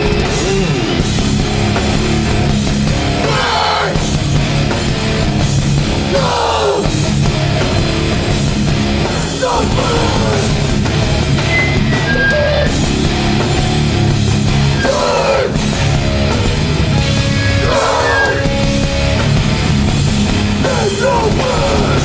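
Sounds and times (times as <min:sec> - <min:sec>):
hardcore band playing live: 0:00.0 - 0:22.0.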